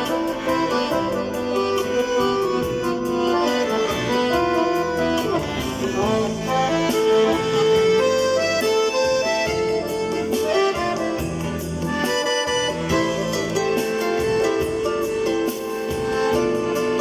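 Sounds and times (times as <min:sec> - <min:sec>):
accordion melody: 0:00.0 - 0:17.0
synthesized accompaniment: 0:00.0 - 0:17.0.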